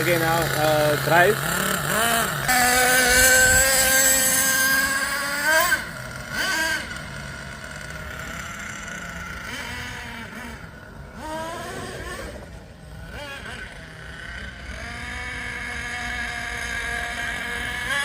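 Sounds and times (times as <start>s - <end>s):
small nitro engine revving: 0.0s - 18.0s.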